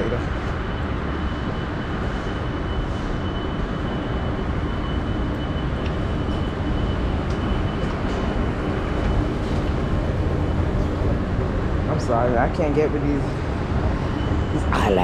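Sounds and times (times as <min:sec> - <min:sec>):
escalator mechanical rumble: 0:00.0 - 0:15.0
faint high whine: 0:00.0 - 0:15.0.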